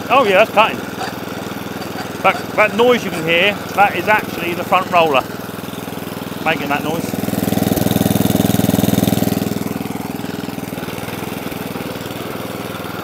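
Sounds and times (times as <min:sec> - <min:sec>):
lawn mower engine running: 0:00.0 - 0:13.0
mower roller noise: 0:00.0 - 0:13.0.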